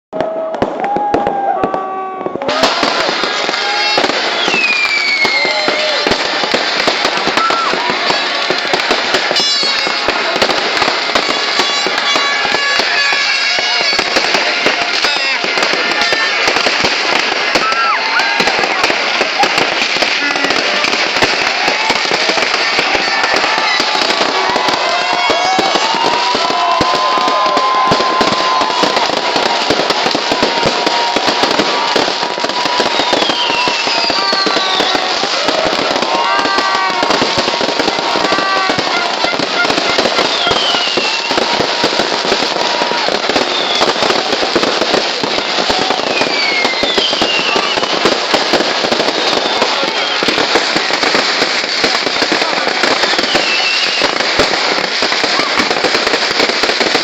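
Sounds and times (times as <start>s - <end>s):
fireworks crackling: 0.1s - 57.0s
fireworks whistling: 0.2s - 57.0s.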